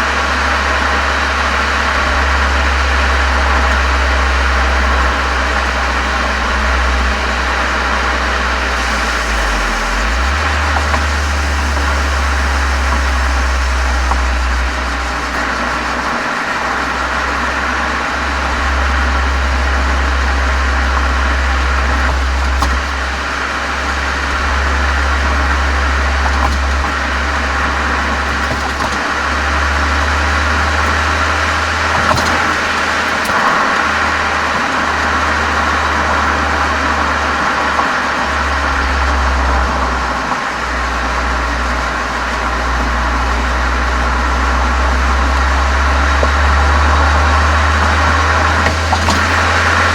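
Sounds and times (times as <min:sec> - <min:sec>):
deep car exhaust drone: 0:00.0 - 0:49.9.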